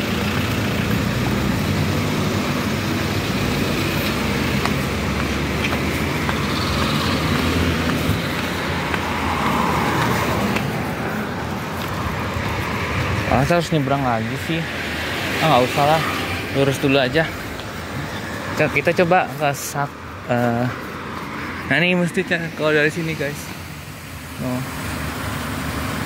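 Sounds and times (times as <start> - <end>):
cars driving past: 0.0 - 26.0.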